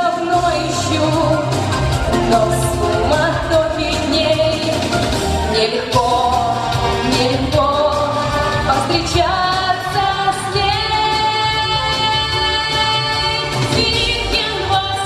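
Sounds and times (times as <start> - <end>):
backing track: 0.4 - 13.7.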